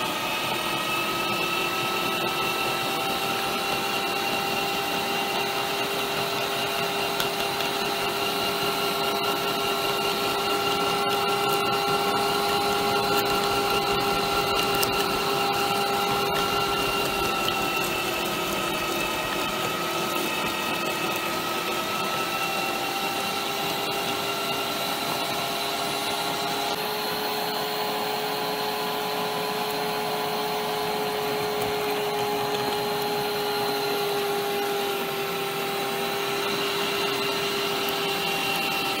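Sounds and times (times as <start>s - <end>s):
meat grinder motor whining: 0.0s - 39.0s.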